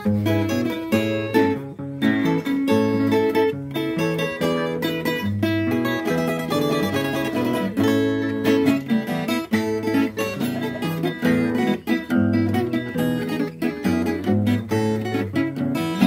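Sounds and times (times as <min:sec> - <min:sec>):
solo acoustic guitar melody: 0:00.0 - 0:16.0.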